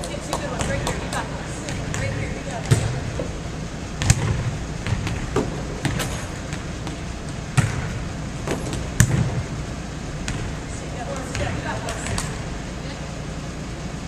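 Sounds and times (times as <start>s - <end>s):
volleyballs bouncing on gym floor: 0.0s - 9.6s, 10.2s - 12.5s.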